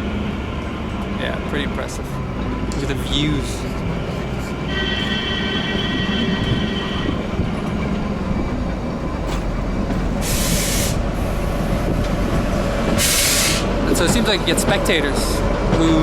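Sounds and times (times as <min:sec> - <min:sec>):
wheels squealing: 0:02.4 - 0:15.5.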